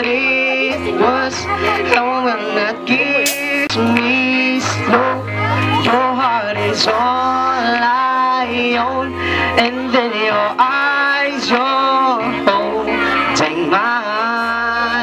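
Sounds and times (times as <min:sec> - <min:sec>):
person singing long notes: 0:00.0 - 0:15.0
steady bass accompaniment: 0:00.0 - 0:15.0.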